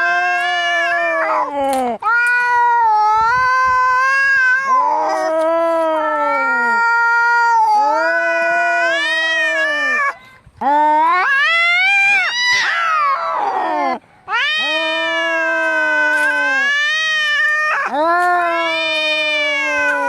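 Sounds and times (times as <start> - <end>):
cats yowling in a fight: 0.0 - 10.2, 10.8 - 20.0.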